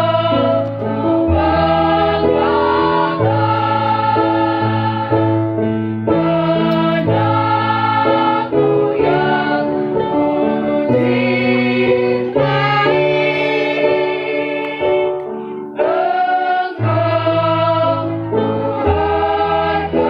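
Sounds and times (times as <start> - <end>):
choir singing in parts: 0.0 - 20.0.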